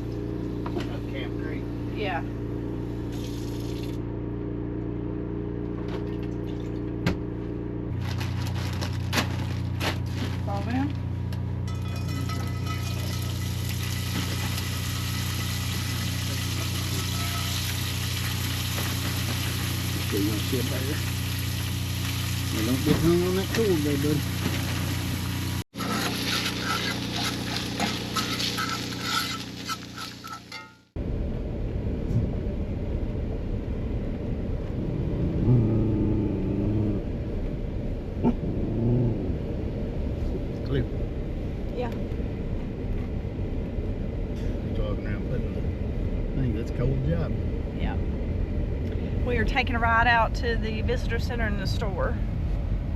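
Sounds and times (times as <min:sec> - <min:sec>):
vehicle rumble inside cab: 0:00.0 - 0:30.0, 0:30.8 - 0:52.9.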